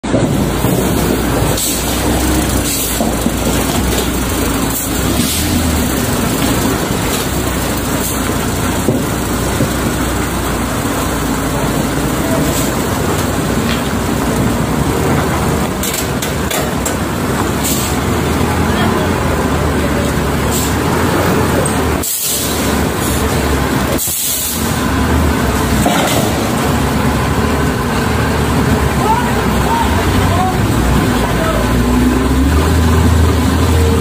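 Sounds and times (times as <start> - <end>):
heavy truck engine drone: 0.0 - 34.0
road and wind noise: 0.0 - 34.0.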